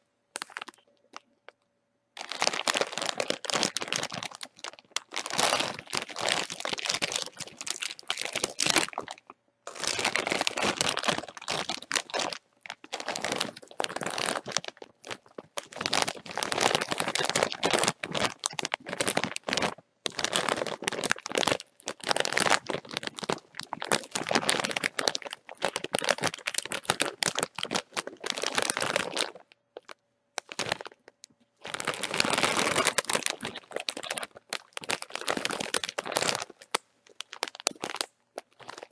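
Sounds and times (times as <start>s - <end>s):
chip bag crinkling: 0.4s - 1.3s, 2.2s - 38.9s.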